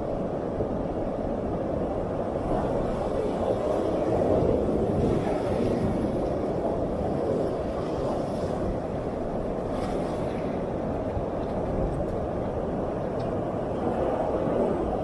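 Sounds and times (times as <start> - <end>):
ocean surf washing up beach: 0.0 - 15.0.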